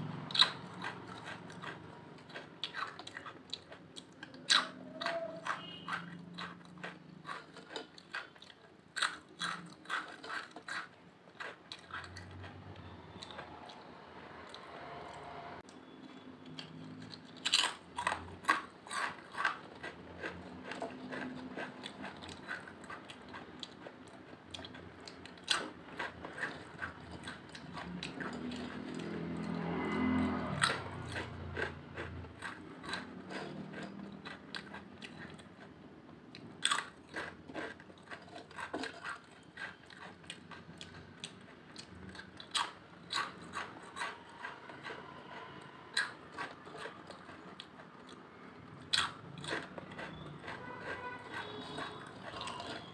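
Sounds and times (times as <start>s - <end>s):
crunching potato chips: 0.3s - 13.8s, 16.6s - 35.7s, 36.3s - 52.9s.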